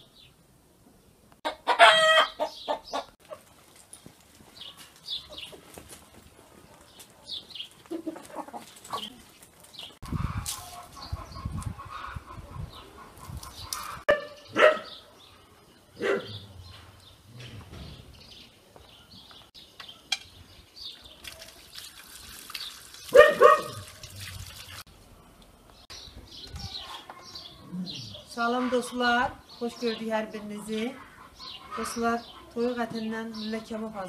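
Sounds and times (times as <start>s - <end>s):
small birds chirping: 4.0s - 23.8s, 25.4s - 34.0s.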